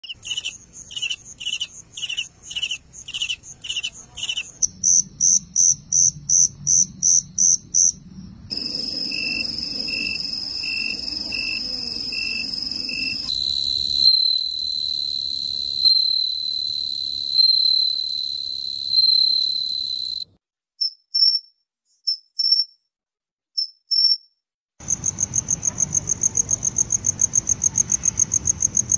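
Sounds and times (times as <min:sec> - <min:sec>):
continuous high insect tone: 0:00.0 - 0:21.4, 0:24.8 - 0:28.9
cricket chirping: 0:00.0 - 0:21.5, 0:22.1 - 0:22.8, 0:23.6 - 0:28.9
higher insect chirps: 0:00.0 - 0:21.5, 0:22.1 - 0:22.8, 0:24.8 - 0:28.9
katydid sharp chirps: 0:00.0 - 0:22.8, 0:23.6 - 0:24.3
tree cricket high trill: 0:00.0 - 0:22.8, 0:23.6 - 0:28.9.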